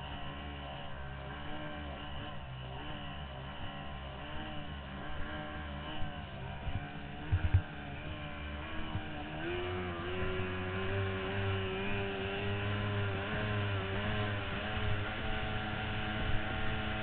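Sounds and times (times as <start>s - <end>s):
outboard racing engine: 0.0s - 17.0s.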